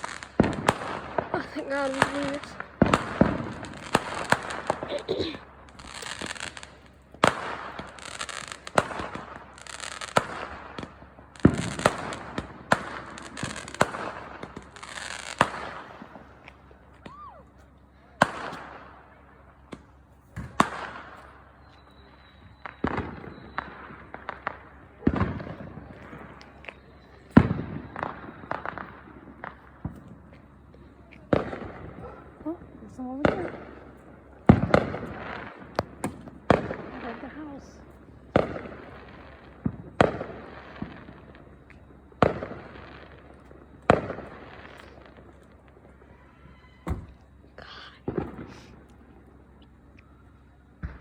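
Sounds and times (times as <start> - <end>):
fireworks bangs: 0.0 - 51.0
fireworks hissing and crackling: 0.0 - 51.0.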